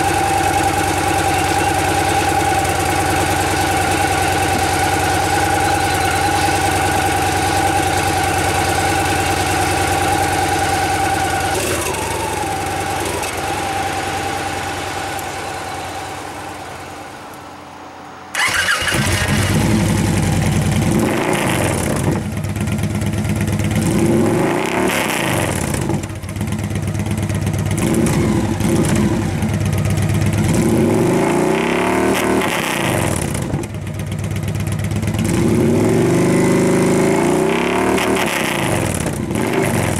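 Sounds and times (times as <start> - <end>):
motorcycle engine idling and revving: 0.0 - 17.6, 18.3 - 39.9.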